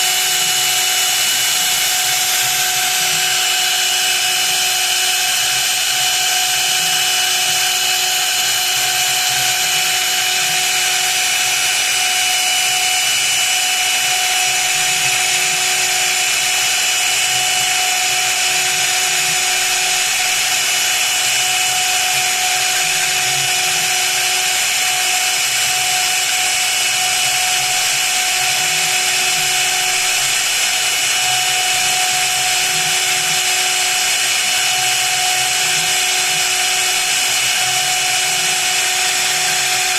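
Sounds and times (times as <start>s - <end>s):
mill spindle high-pitched whine: 0.0s - 39.9s.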